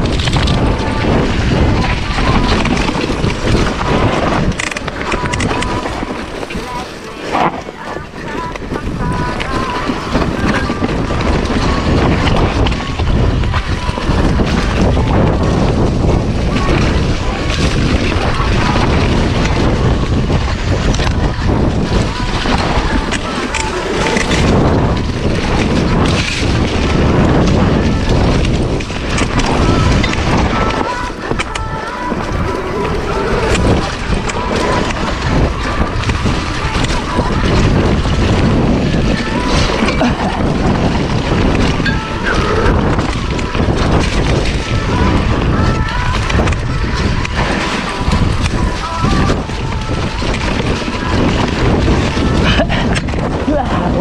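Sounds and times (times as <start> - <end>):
steady low rumble: 0.0 - 54.0
wind buffeting microphone: 0.0 - 54.0.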